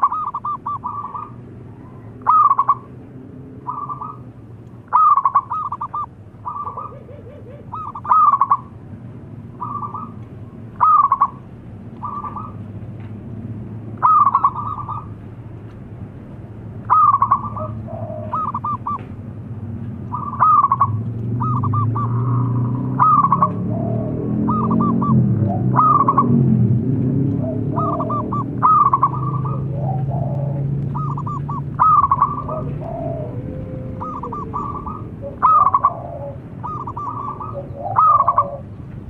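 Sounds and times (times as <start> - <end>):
dove cooing: 0.0 - 2.9, 3.6 - 4.3, 4.9 - 8.8, 9.6 - 11.4, 12.0 - 12.7, 14.0 - 15.2, 16.8 - 19.1, 20.1 - 26.5, 27.2 - 38.8.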